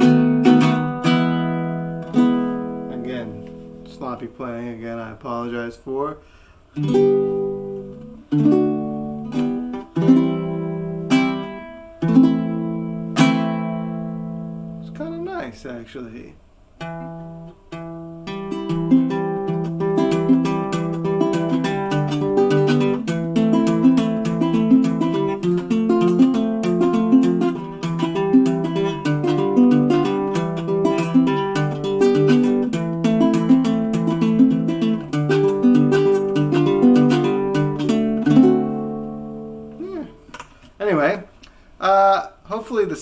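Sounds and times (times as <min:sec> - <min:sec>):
fingerpicked ukulele chords: 0:00.0 - 0:04.8, 0:06.8 - 0:15.0, 0:16.8 - 0:40.3.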